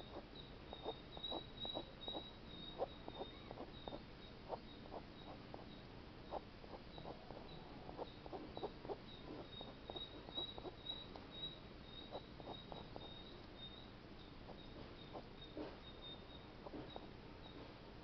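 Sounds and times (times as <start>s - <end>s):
faint high-pitched chirping: 0.0s - 17.7s.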